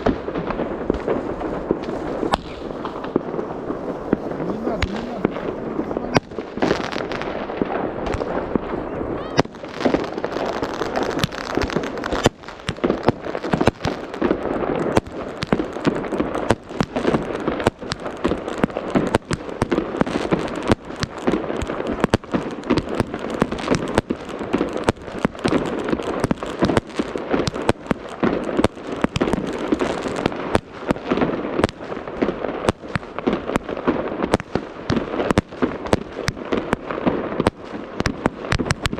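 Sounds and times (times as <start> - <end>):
crackling rumble: 0.0 - 38.9
fireworks bangs and pops: 0.0 - 38.9.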